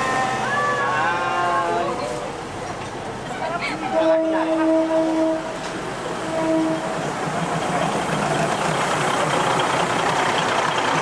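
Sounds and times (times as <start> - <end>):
diesel railcar running: 0.0 - 11.0.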